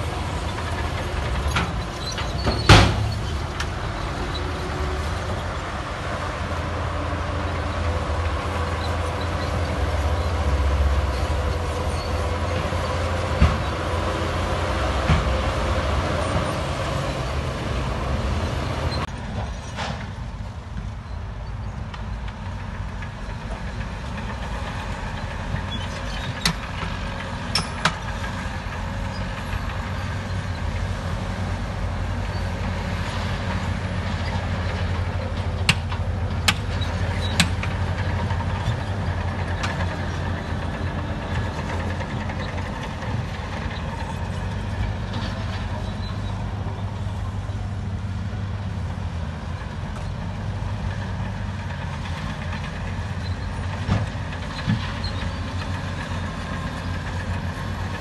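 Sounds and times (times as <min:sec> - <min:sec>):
diesel machinery running: 0:00.0 - 0:58.0
dump trucks tipping dirt: 0:00.0 - 0:58.0.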